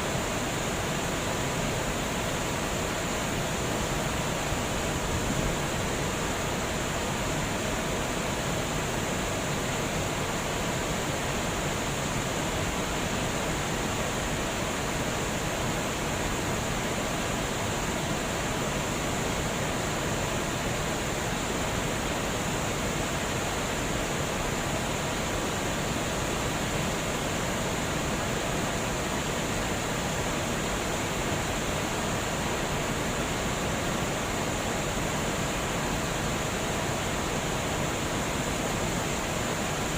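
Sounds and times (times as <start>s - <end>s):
water flowing over a dam: 0.0s - 39.9s.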